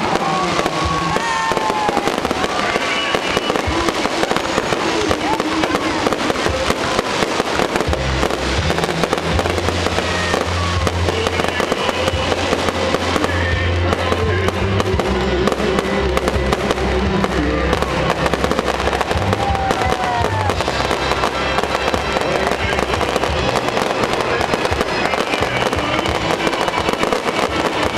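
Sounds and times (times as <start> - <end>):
fireworks crackling and popping: 0.0 - 27.9
music with steady bass: 3.2 - 27.9.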